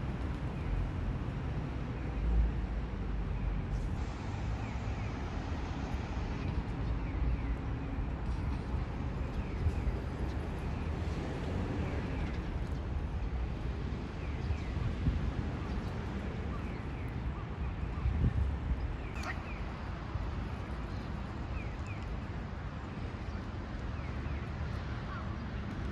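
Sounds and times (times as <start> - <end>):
city traffic rumble: 0.0 - 25.9.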